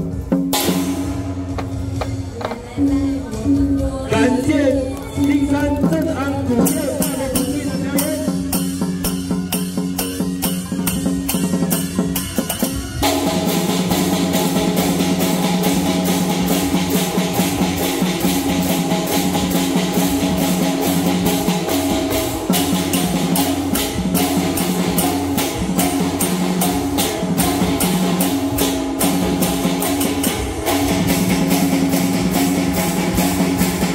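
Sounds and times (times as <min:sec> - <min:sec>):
cymbals crashing: 0:00.0 - 0:04.6, 0:06.4 - 0:33.9
large drum: 0:00.0 - 0:33.9
gongs ringing: 0:00.5 - 0:33.9.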